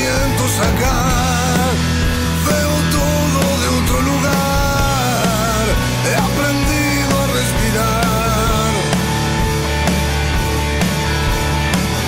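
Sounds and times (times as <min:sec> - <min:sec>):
rock band playing: 0:00.0 - 0:12.0
steady low bass line: 0:00.0 - 0:12.0.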